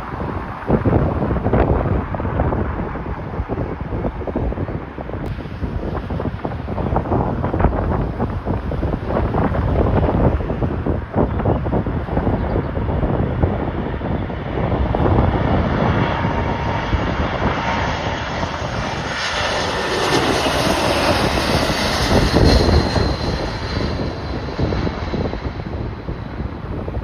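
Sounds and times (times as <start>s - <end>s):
jet airliner passing: 0.0s - 27.0s
wind buffeting microphone: 0.0s - 27.0s.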